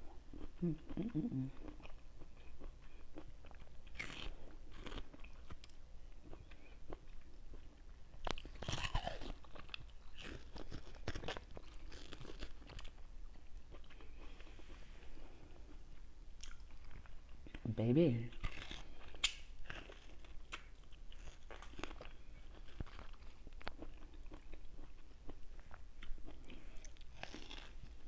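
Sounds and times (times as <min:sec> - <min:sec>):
mango being bitten and chewed: 0:00.3 - 0:14.5, 0:18.3 - 0:28.0.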